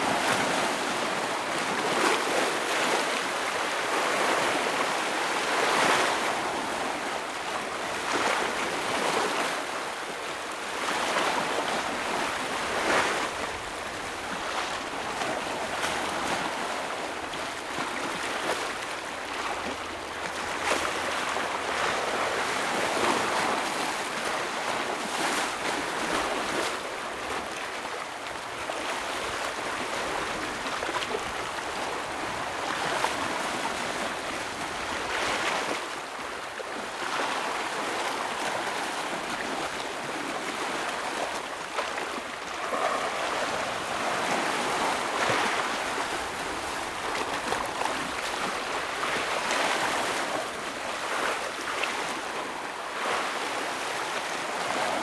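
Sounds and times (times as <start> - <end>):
ocean waves breaking over rocks: 0.0 - 55.0.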